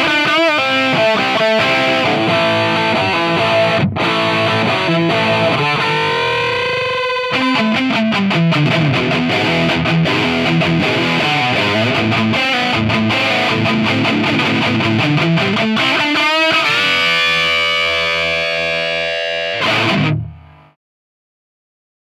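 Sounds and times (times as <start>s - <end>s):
distorted electric guitar riff: 0.0s - 20.8s.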